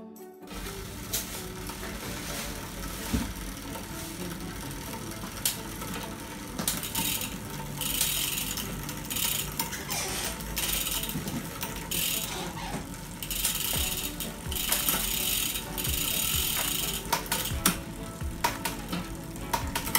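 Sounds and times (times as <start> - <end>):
bicycle freewheel ratcheting: 0.5 - 19.9.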